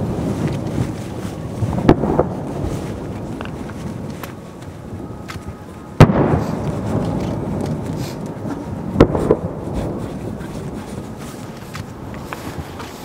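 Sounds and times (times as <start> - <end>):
firework bangs with echo: 0.0 - 12.2.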